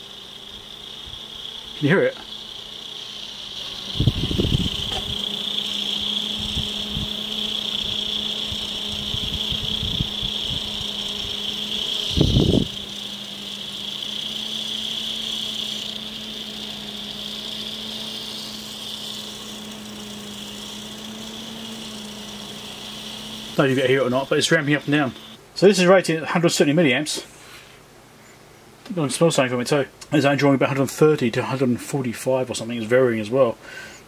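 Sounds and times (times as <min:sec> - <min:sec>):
cooling fan hum and whine: 0:00.0 - 0:34.0.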